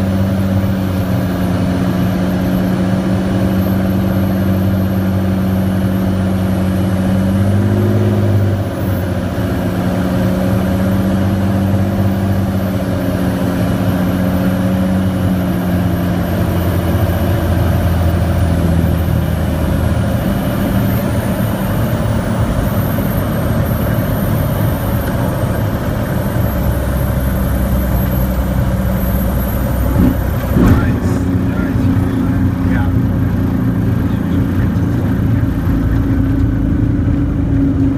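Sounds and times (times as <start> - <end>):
aircraft engine and propeller droning: 0.0 - 37.9.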